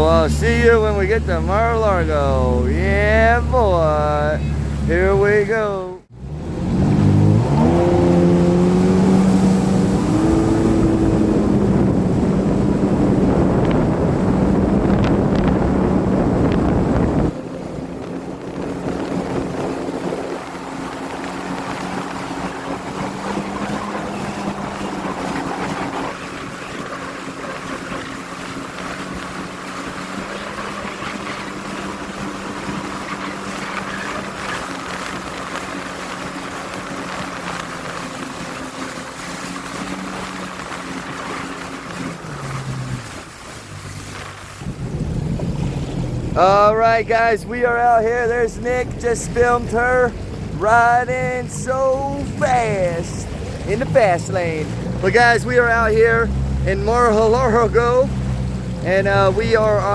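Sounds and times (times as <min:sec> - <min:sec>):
watercraft engine: 0:00.0 - 0:59.9
wind and water noise: 0:00.0 - 0:59.9.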